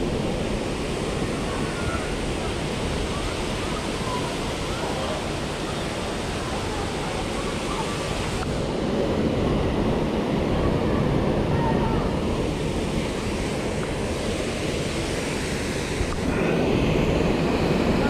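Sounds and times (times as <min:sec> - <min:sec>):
waterfall rushing: 0:00.0 - 0:09.0, 0:09.8 - 0:18.0.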